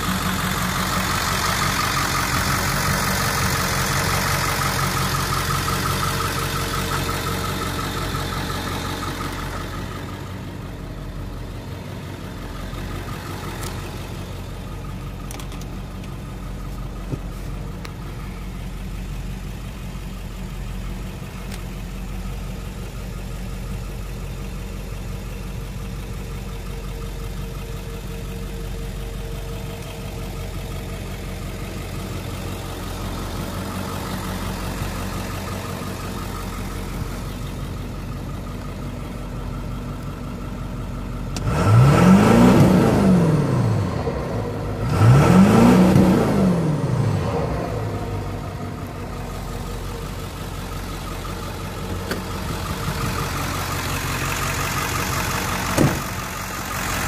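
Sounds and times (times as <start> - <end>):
diesel engine idling: 0.0 - 57.0
diesel engine revving: 0.0 - 57.0.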